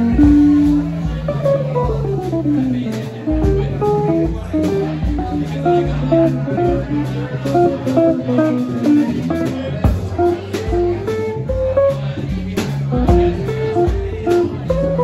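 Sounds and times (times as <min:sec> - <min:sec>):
bass: 0:00.0 - 0:15.0
drums and ride cymbal: 0:00.0 - 0:15.0.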